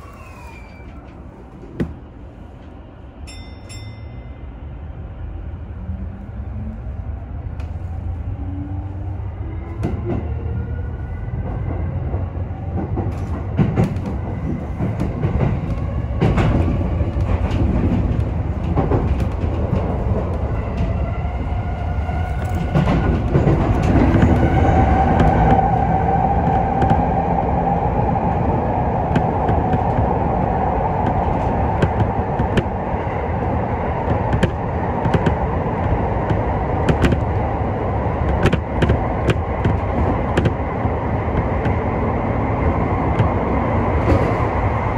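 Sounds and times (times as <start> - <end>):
electric train rumble and whine: 0.0 - 44.9.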